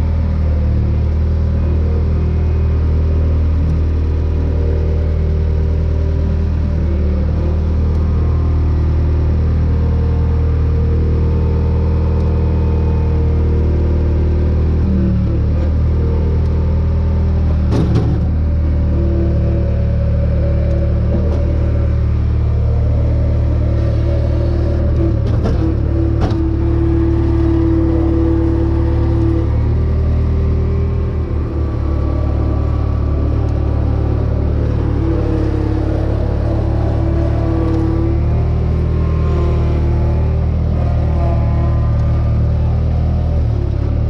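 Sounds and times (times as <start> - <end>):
loader engine running: 0.0 - 44.0.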